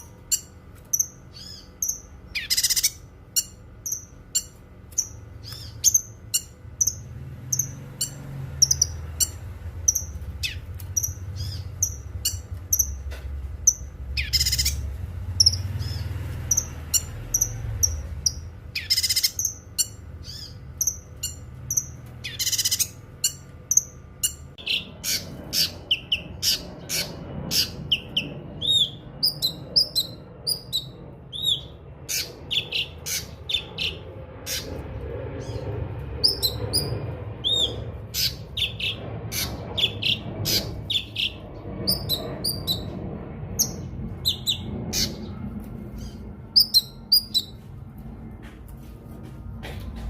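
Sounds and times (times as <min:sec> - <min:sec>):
bird chirping: 0:00.0 - 0:34.8, 0:35.4 - 0:47.6
low background rumble: 0:00.0 - 0:50.0.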